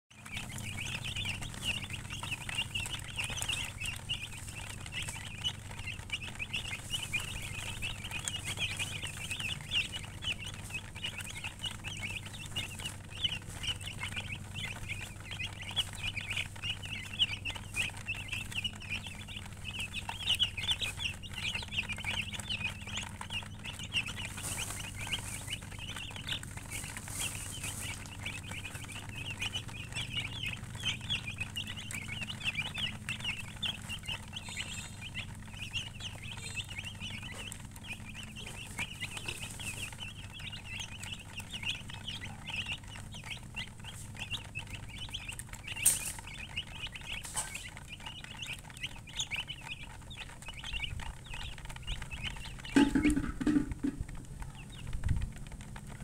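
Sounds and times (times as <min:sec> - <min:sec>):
chicks peeping: 0:00.1 - 0:56.0.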